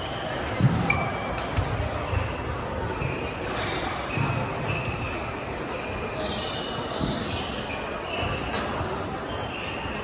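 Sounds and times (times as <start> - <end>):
murmur of voices: 0.0 - 10.0.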